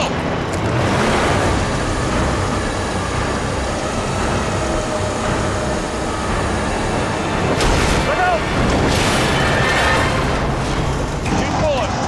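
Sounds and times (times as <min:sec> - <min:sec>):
heavy diesel machinery rumble: 0:00.0 - 0:12.0.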